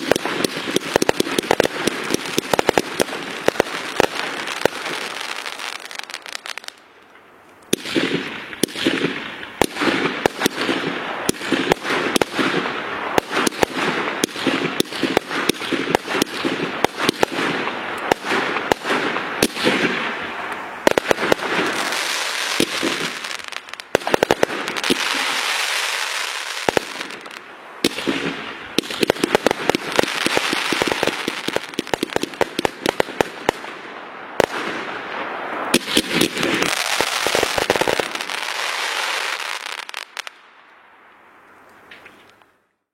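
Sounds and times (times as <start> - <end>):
crackling and popping bangs: 0.0 - 40.5.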